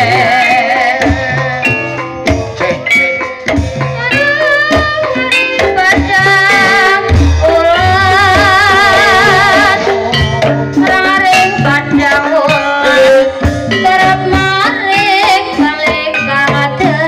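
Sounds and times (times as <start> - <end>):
hand drums: 0.0 - 17.0
struck metal percussion: 0.0 - 17.0
wavering melodic line: 1.4 - 17.0.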